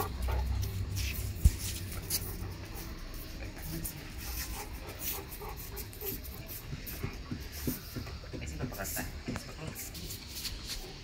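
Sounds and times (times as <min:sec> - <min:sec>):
dogs moving about: 0:00.0 - 0:08.8.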